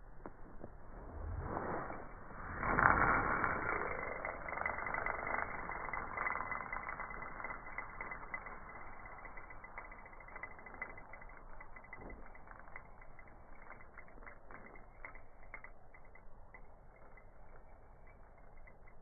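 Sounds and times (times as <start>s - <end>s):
fishing line running off reel: 1.0s - 19.0s.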